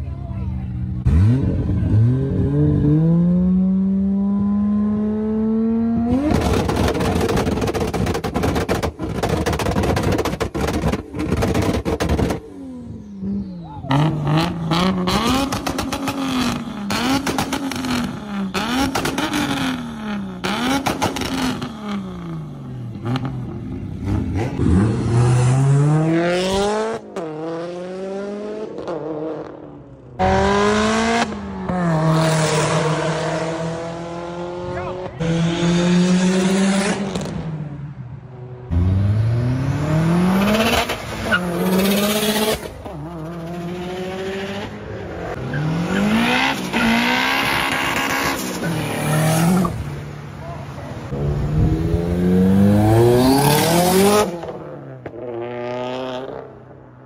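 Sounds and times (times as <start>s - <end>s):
car engine revving: 1.0s - 37.9s, 38.7s - 56.5s.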